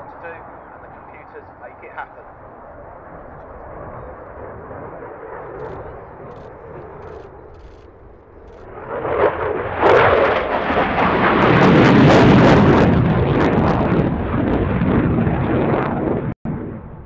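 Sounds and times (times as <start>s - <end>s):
jet engine crackling rumble: 0.0s - 17.0s.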